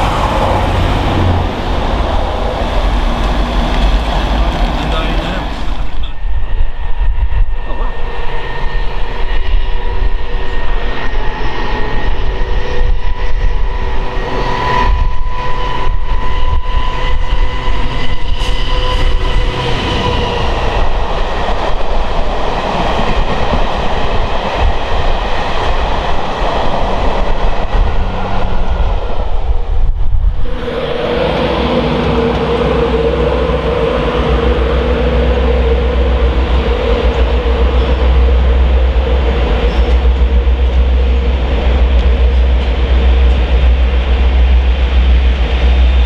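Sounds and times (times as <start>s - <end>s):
diesel locomotive engine whining: 0.0s - 46.0s
train wheels on rails: 0.0s - 46.0s.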